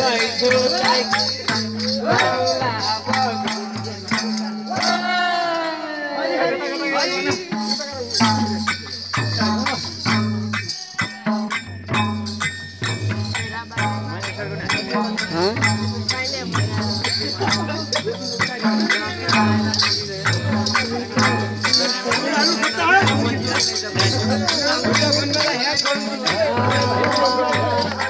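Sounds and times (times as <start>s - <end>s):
small cymbals shimmering: 0.0s - 5.1s, 6.8s - 28.0s
hand drums beating: 0.0s - 5.9s, 6.7s - 28.0s
men's voices: 0.0s - 11.6s, 13.2s - 28.0s.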